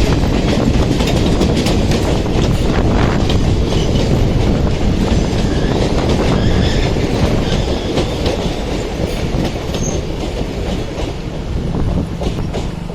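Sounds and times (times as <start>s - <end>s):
train wheels clattering over rail joints: 0.0s - 12.9s.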